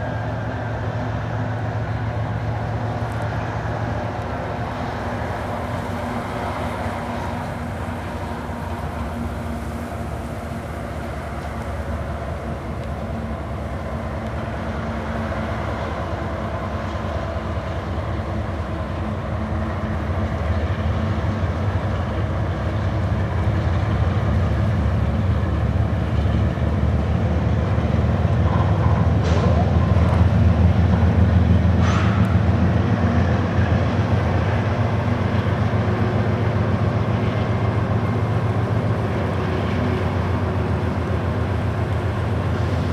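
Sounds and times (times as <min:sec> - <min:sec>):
locomotive engine drone: 0:00.0 - 0:42.9
train rumbling over trestle: 0:00.0 - 0:42.9.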